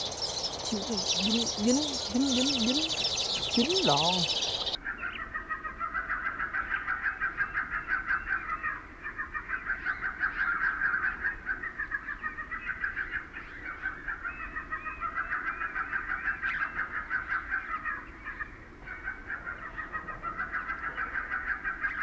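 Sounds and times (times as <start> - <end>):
sparrows chirping: 0.0 - 5.3, 9.3 - 22.0.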